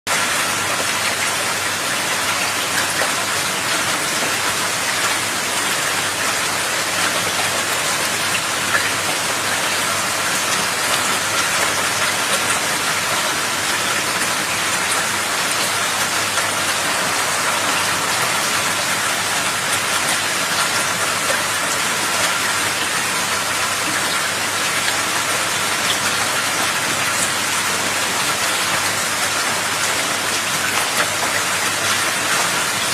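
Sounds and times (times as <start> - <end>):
heavy rain falling: 0.1 - 32.9.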